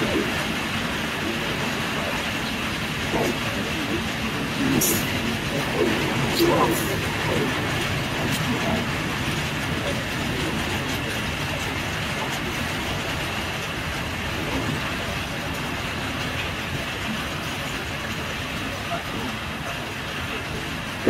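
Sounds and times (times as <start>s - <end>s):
train wheels on track: 0.0s - 21.0s.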